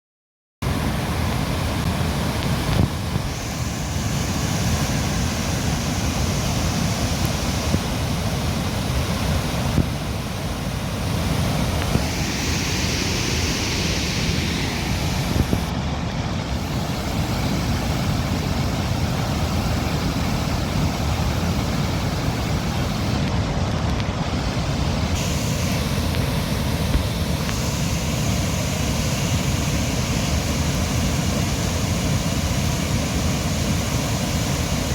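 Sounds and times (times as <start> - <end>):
river water rushing: 0.6 - 34.9.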